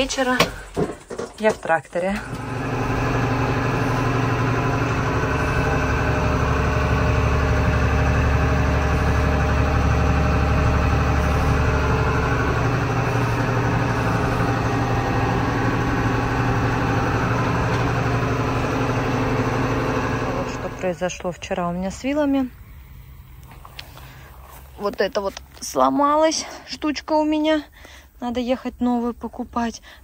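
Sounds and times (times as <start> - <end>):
tractor engine humming: 0.0 - 27.4.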